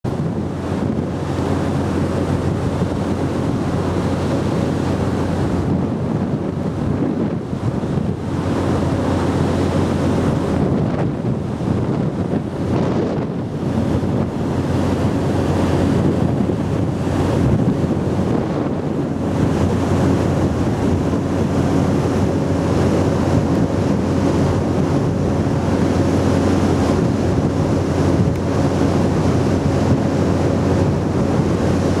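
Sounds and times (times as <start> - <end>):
sea water rushing along hull: 0.0 - 32.0
wind buffeting microphone: 0.0 - 32.0.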